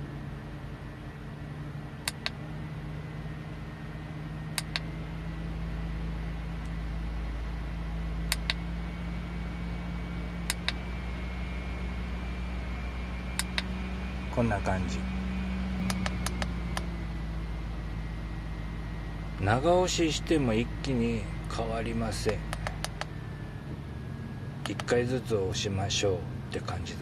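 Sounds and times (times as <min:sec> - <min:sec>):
fan motor humming: 0:00.0 - 0:27.0.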